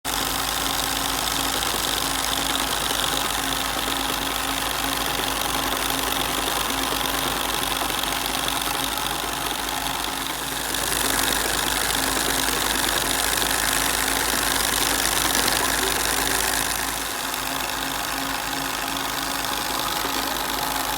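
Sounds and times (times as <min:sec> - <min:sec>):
toy steam engine running: 0:00.1 - 0:20.9.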